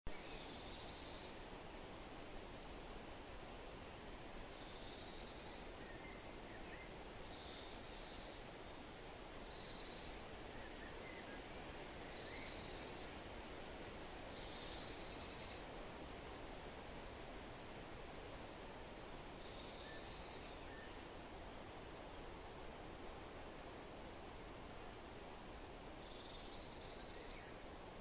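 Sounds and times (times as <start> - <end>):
wind and water hiss: 0.1 - 28.0.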